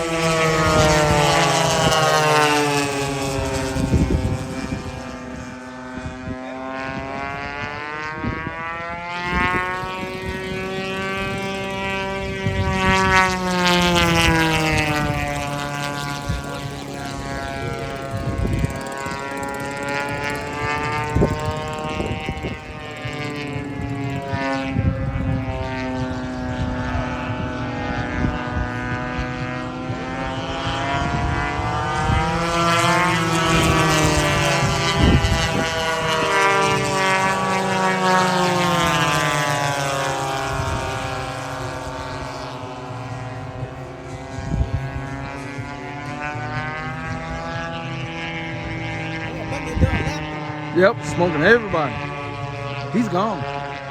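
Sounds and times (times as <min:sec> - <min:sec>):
model plane engines droning: 0:00.0 - 0:53.9.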